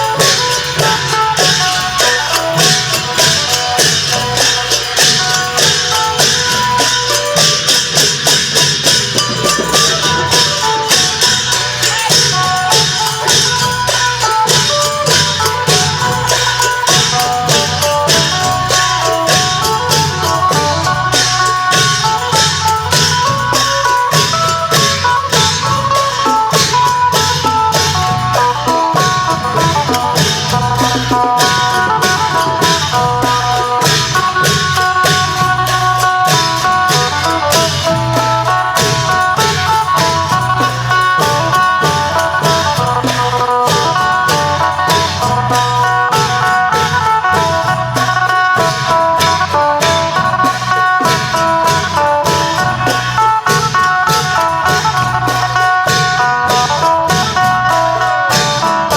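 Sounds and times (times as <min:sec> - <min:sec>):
cymbals: 0:00.0 - 0:58.9
long drums beating: 0:00.0 - 0:58.9
plucked lute melody: 0:00.0 - 0:58.9.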